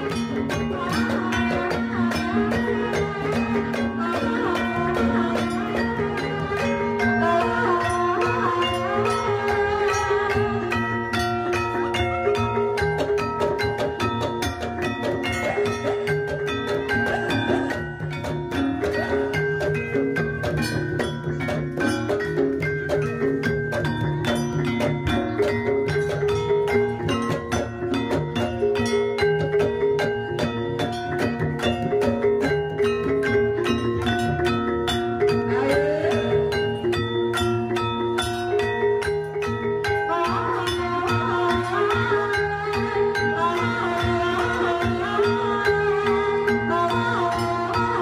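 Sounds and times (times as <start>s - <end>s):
struck metal keys and gongs: 0.0s - 48.0s
wavering melody line: 0.0s - 48.0s.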